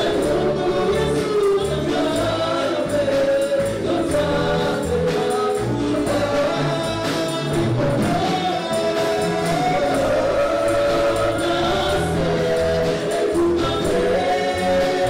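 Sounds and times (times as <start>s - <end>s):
bass line: 0.0s - 15.0s
gospel choir singing: 0.0s - 15.0s
percussion beat: 0.0s - 15.0s.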